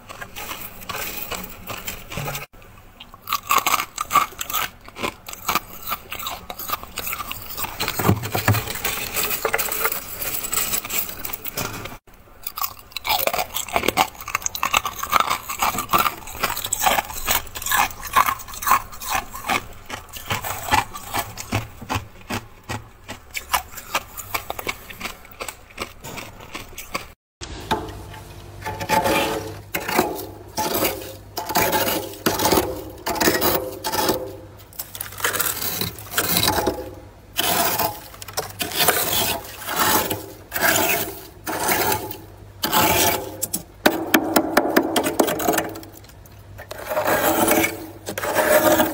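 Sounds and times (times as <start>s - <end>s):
freezer frost being scraped: 0.0s - 2.5s, 3.3s - 12.0s, 12.7s - 48.9s.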